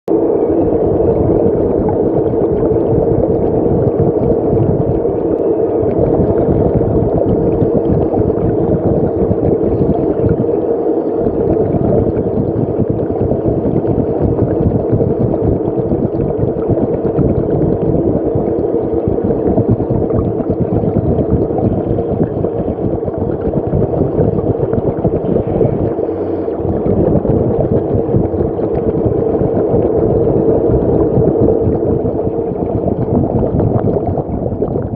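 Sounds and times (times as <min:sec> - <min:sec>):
constant hum: 0:00.1 - 0:34.9
water gurgling: 0:00.1 - 0:34.9.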